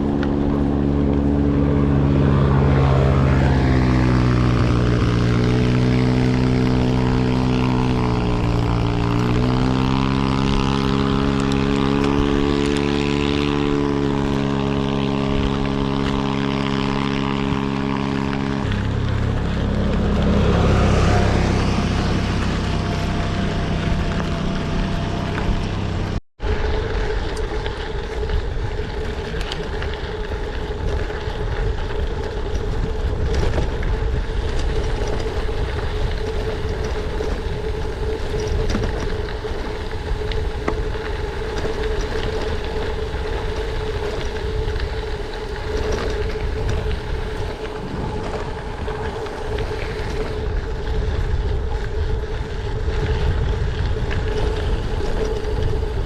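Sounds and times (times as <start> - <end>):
bike tyres rumbling on gravel: 0.0 - 56.0
wind rushing on microphone: 0.0 - 56.0.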